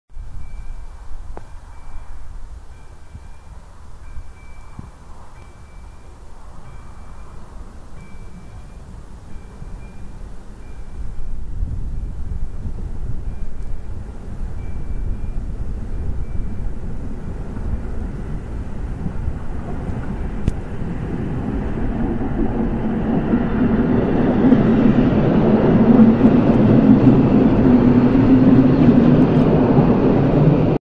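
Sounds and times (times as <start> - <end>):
electric train rumbling: 0.1 - 30.8.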